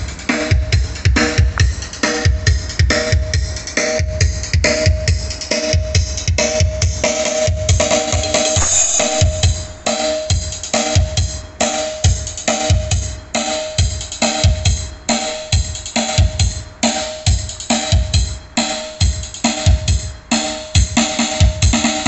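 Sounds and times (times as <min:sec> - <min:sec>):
music with drum-kit beat: 0:00.0 - 0:22.0.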